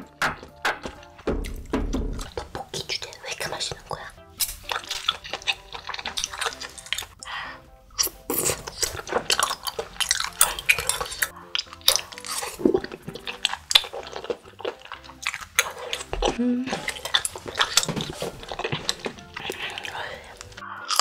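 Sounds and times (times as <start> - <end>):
chewing and mouth noises: 0.9 - 21.0.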